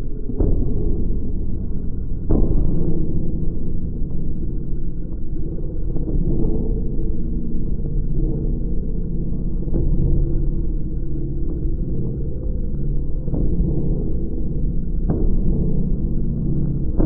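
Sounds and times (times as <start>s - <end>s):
deep low drone: 0.0s - 17.0s.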